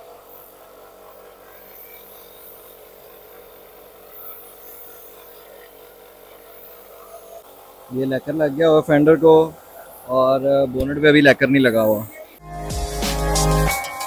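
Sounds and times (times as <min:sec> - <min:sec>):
spray gun hissing: 0:00.0 - 0:14.0.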